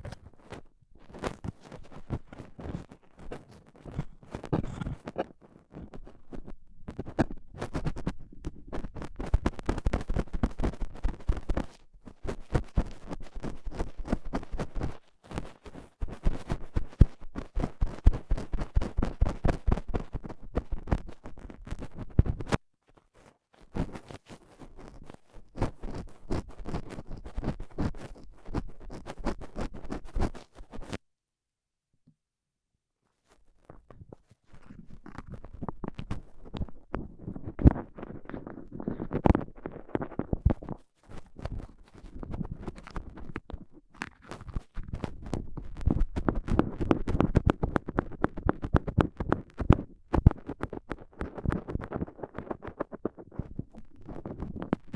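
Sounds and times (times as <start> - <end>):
dental pick scratching in ear: 0.0 - 22.6, 23.7 - 31.0, 33.3 - 54.9.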